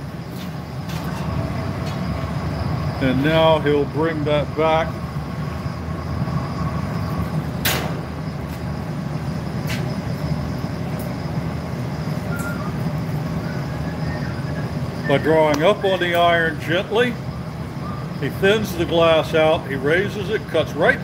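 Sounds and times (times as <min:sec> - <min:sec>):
gas furnace burners roaring: 0:00.0 - 0:21.0.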